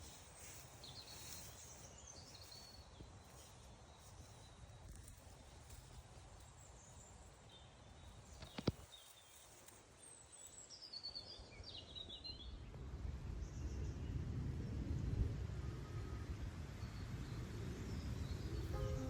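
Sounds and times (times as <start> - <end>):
outdoor ambience: 0.0 - 19.0.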